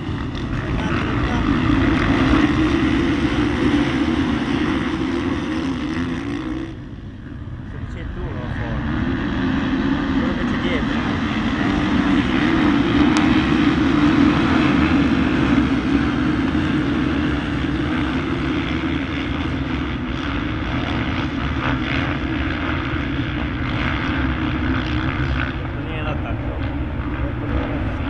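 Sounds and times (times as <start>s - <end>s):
motocross bikes at high revs: 0.0s - 28.0s.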